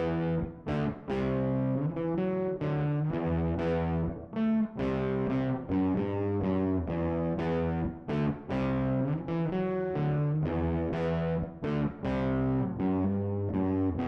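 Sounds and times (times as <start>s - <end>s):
clean electric guitar chords: 0.0s - 14.0s.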